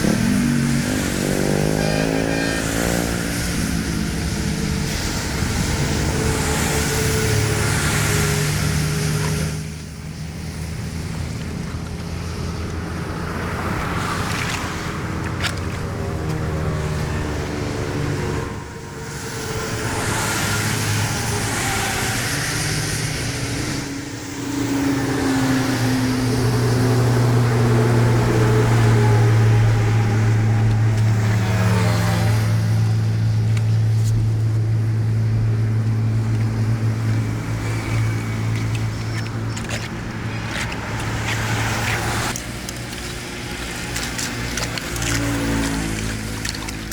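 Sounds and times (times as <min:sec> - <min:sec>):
low engine-like hum: 0:00.0 - 0:46.9
rushing water: 0:00.0 - 0:46.9.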